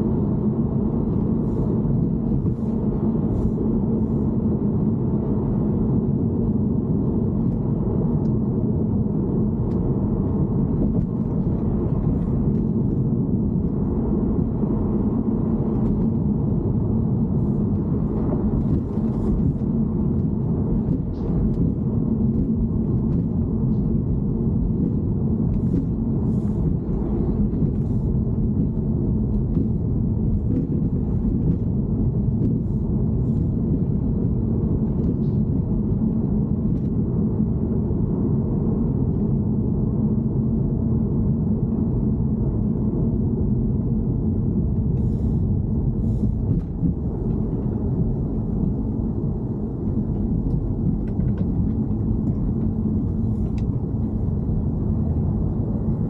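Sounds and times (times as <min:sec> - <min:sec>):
car engine rumbling: 0:00.0 - 0:56.0.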